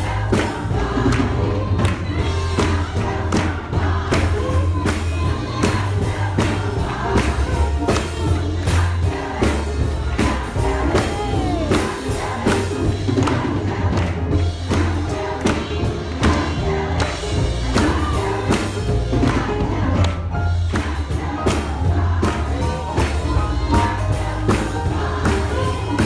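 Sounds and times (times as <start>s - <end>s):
choir and congregation singing: 0.0s - 26.0s
deep bass: 0.0s - 26.0s
steady percussive beat: 0.0s - 26.0s.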